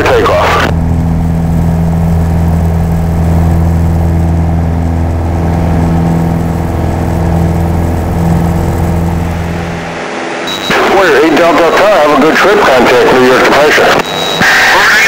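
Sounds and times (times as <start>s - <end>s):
propeller plane engine at full power: 0.0s - 15.0s.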